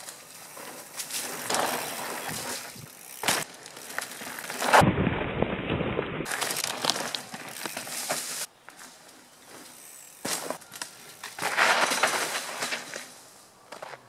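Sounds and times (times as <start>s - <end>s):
bike clicks and rattles: 0.0s - 4.8s, 6.3s - 14.0s
bike tyres crunching over dirt: 0.0s - 14.0s.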